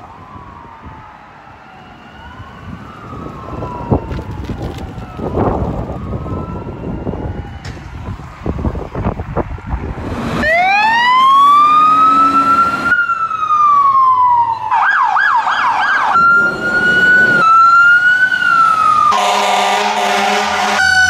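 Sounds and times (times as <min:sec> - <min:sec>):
siren yelping: 0:00.0 - 0:08.9, 0:10.4 - 0:21.0
siren wailing: 0:00.0 - 0:21.0.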